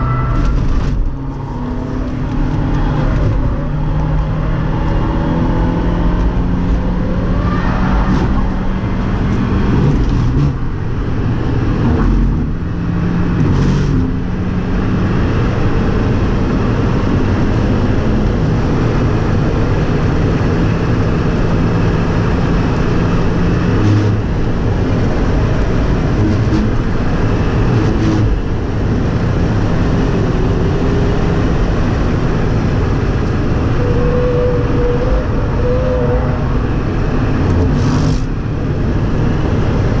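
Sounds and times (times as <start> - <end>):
car engine running hard: 0.0 - 40.0.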